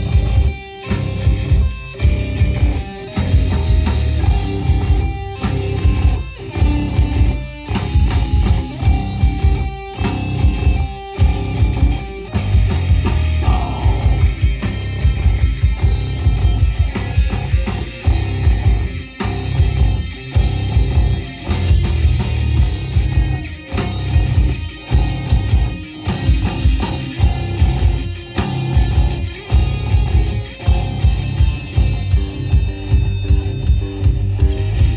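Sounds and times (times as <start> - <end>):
distorted electric guitars: 0.0 - 34.9
live rock band playing: 0.0 - 34.9
pounding drums: 0.0 - 34.9.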